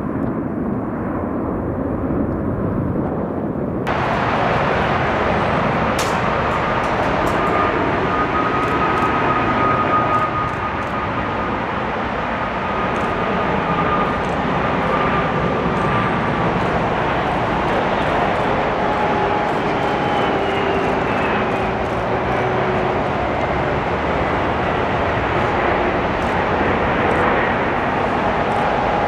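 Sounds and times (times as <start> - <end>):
jet engines rushing: 0.0 - 29.0
high engine whine: 3.8 - 29.0.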